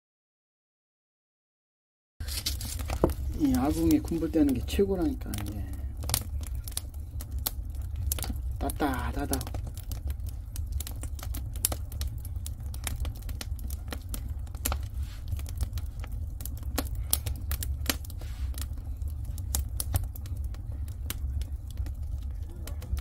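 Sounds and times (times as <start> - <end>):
firewood crackling and popping: 2.2 - 23.0
low furnace rumble: 2.2 - 23.0.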